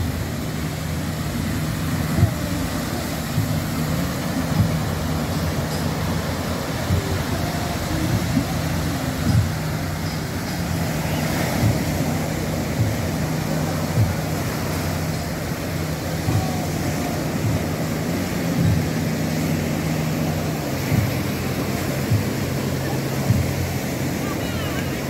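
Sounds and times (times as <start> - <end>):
steady low hum: 0.0 - 24.3
small waves breaking on sand: 0.0 - 25.0
wind buffeting microphone: 0.0 - 25.0.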